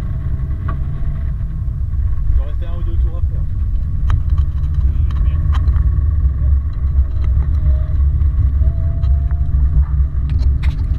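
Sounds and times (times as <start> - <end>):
engine and tyre rumble in car cabin: 0.0 - 10.9
faint whine: 0.0 - 10.9.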